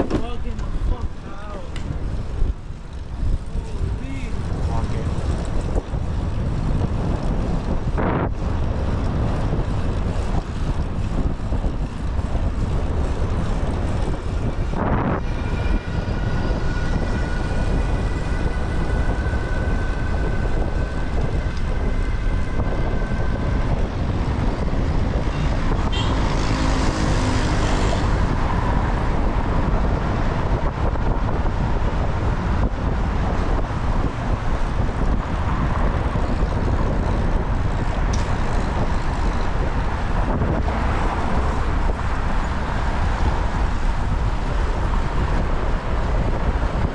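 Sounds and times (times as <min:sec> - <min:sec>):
traffic noise: 0:00.0 - 0:46.9
wind on microphone: 0:00.0 - 0:46.9.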